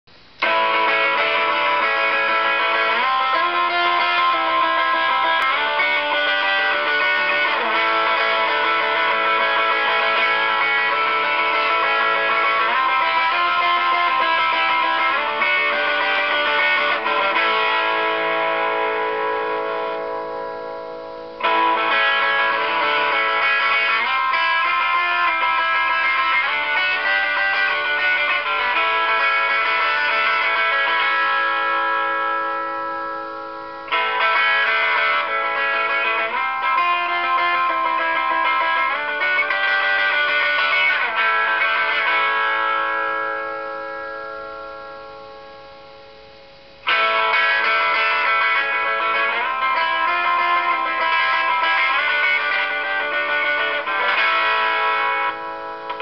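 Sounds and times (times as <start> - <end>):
overdriven electric guitar chords: 0.0 - 56.0.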